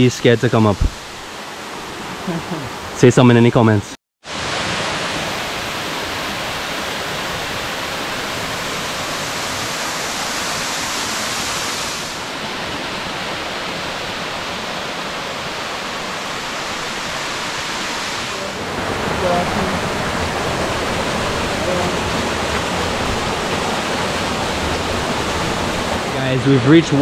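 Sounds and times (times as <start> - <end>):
waterfall roar: 4.3 - 27.0.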